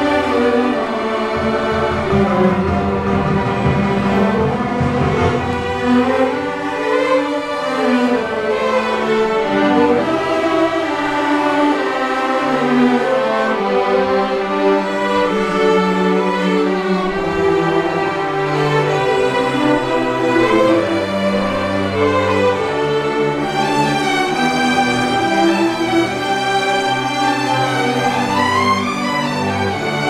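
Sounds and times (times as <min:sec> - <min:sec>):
string orchestra playing: 0:00.0 - 0:30.0.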